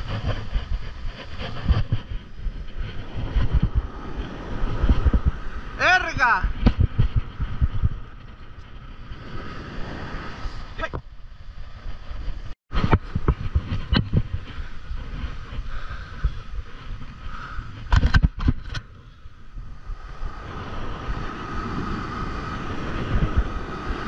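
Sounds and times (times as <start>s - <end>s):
breaking surf: 0.0s - 18.0s, 19.5s - 24.0s
wind buffeting microphone: 0.0s - 24.0s.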